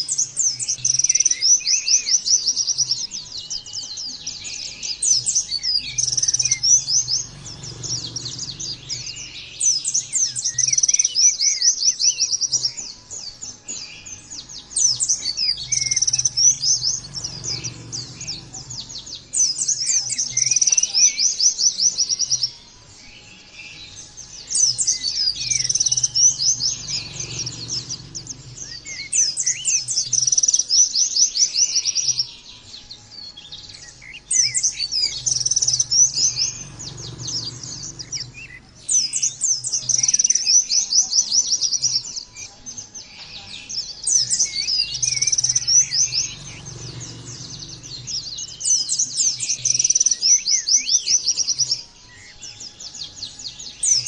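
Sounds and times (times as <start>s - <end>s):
bird singing high chattering trills: 0.0s - 54.0s.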